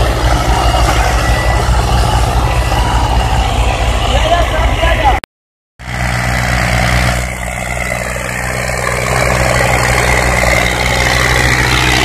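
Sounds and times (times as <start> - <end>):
diesel tractor engines running hard: 0.0 - 12.0.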